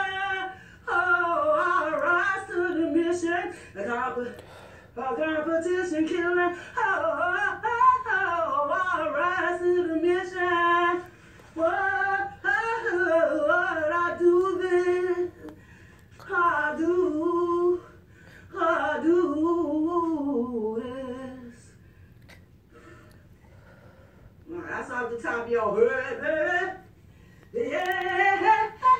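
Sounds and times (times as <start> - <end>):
woman singing unaccompanied: 0.0 - 21.8, 24.4 - 28.9.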